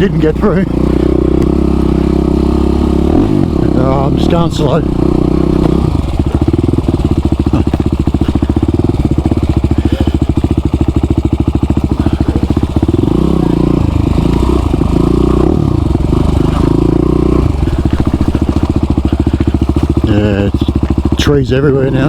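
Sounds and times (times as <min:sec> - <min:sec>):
motorbike engine at low revs: 0:00.0 - 0:22.0.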